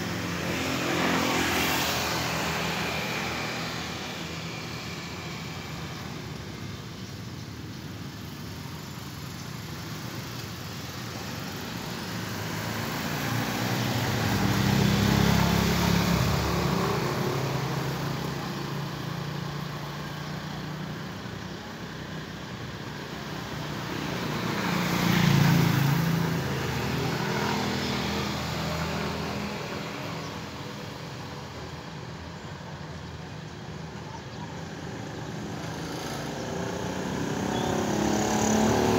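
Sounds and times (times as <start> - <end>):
motor vehicles passing by: 0.0 - 38.9.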